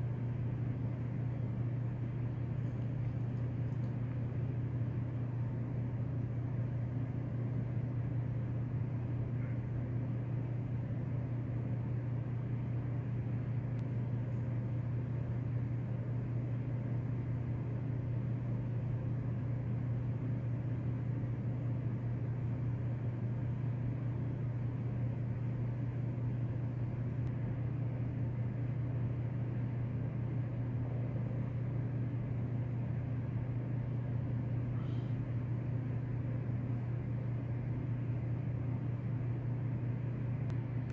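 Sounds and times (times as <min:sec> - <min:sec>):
low machine hum: 0:00.0 - 0:40.9.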